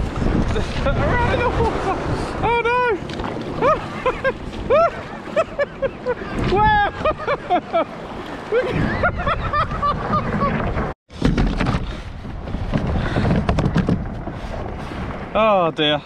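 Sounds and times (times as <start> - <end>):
wind buffeting microphone: 0.0 - 15.4
water around a kayak hull: 0.0 - 16.0.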